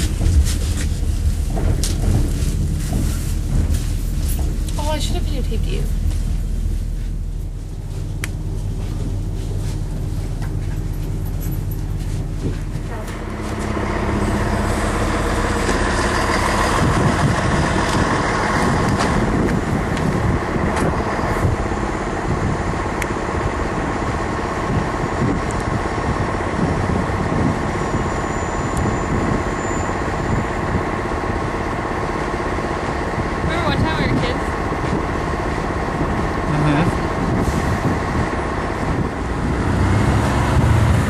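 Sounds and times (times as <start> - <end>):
diesel railcar rumbling: 0.0 - 41.0.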